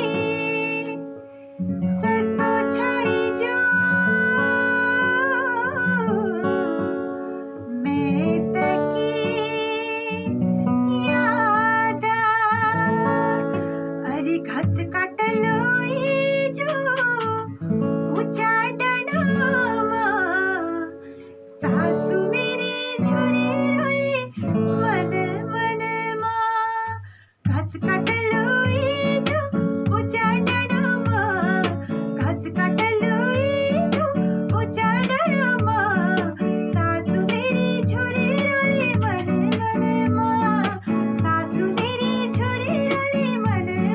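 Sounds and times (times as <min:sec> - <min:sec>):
acoustic guitar chords: 0:00.0 - 0:43.9
woman singing: 0:00.0 - 0:43.9.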